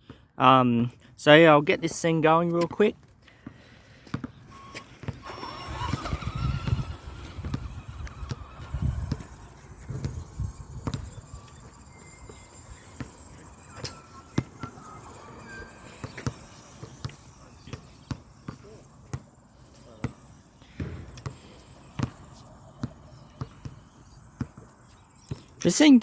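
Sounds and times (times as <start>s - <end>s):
electric motor whine: 4.5s - 25.7s.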